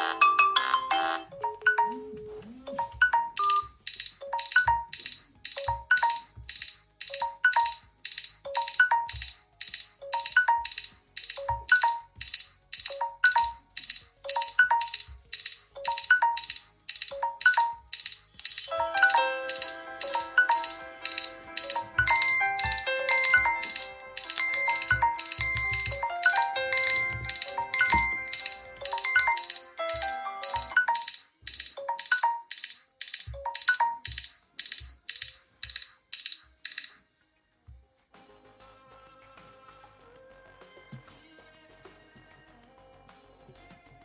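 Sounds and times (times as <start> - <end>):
overlapping melodic ringtones: 0.0 - 35.4
phone beeping pattern: 0.0 - 37.0.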